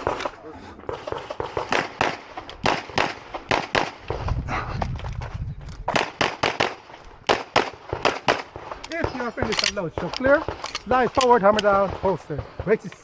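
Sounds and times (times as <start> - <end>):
rapid handgun shots: 0.0 - 4.2, 5.9 - 13.0.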